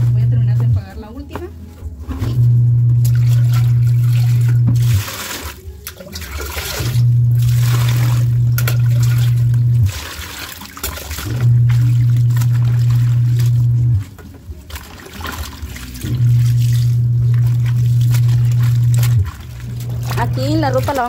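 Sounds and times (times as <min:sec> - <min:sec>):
washing machine motor hum: 0:00.0 - 0:21.0
water splashing and trickling: 0:03.0 - 0:21.0.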